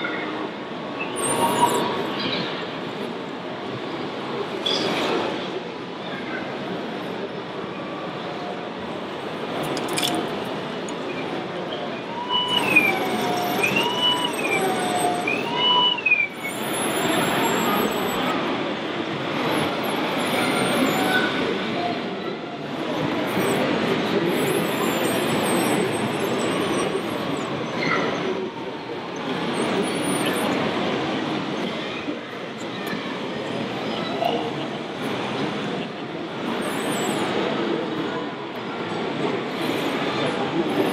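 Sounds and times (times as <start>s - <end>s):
busy hall background noise: 0.0s - 40.9s.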